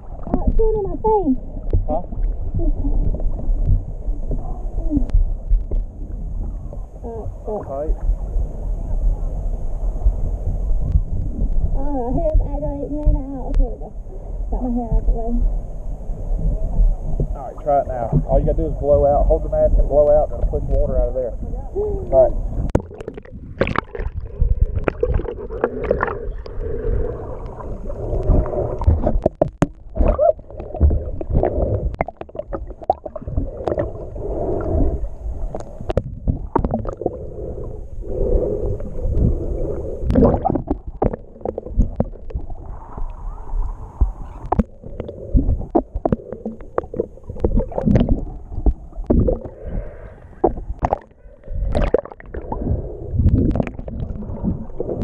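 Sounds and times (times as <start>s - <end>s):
underwater water sloshing: 0.0s - 55.0s.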